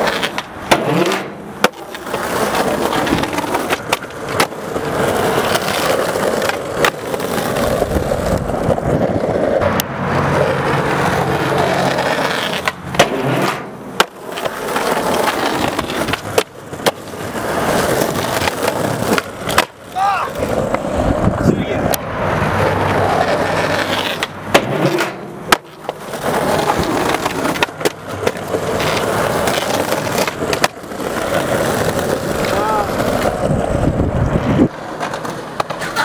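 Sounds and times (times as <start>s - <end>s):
skateboard clacking on ground: 0.0s - 36.0s
skateboard wheels rolling on asphalt: 0.0s - 36.0s.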